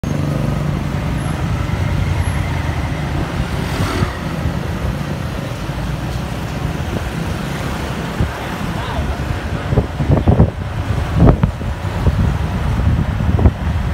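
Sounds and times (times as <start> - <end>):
city traffic noise: 0.0 - 13.9.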